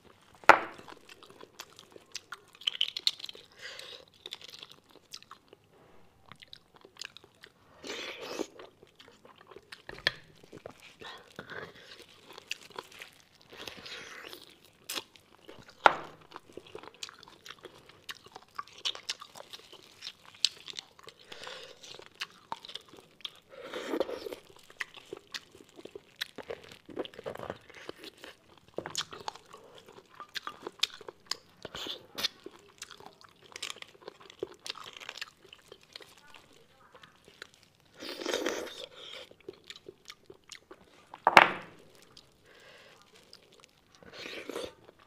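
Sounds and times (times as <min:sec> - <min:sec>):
close chewing: 0:00.0 - 0:45.0.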